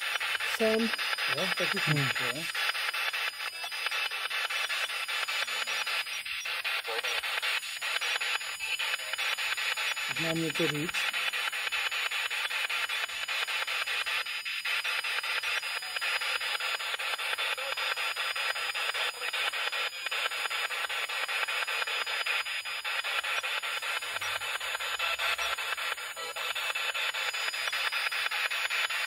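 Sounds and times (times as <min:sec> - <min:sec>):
choppy rasping radio static: 0:00.0 - 0:29.0.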